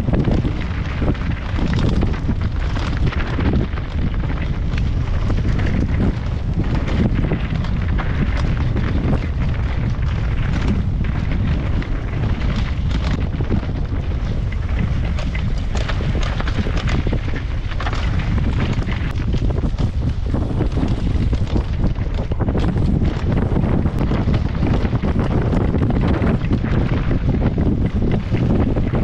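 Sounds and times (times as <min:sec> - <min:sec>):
bike knocks and rattles: 0:00.0 - 0:29.0
wind buffeting on microphone: 0:00.0 - 0:29.0.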